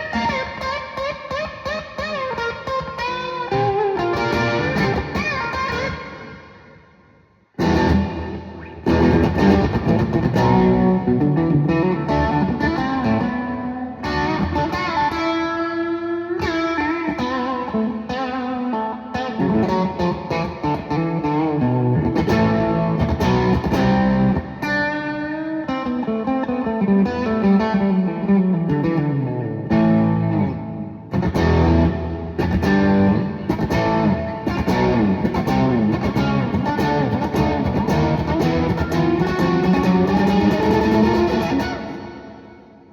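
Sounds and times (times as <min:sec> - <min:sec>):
electric guitar music: 0:00.0 - 0:42.9.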